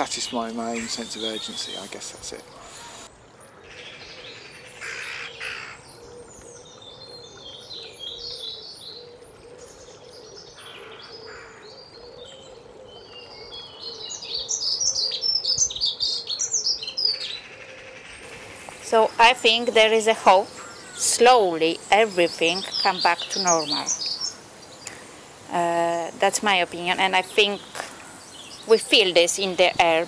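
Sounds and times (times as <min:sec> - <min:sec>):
small birds chirping and trilling: 0:00.0 - 0:30.0.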